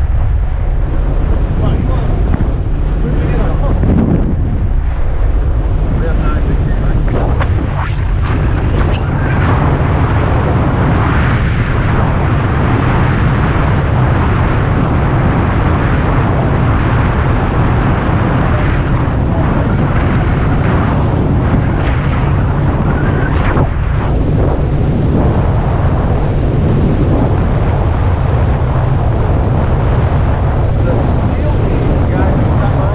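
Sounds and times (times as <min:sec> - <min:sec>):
low rumble of boat and water: 0:00.0 - 0:32.9
wind rushing over microphone: 0:00.0 - 0:32.9.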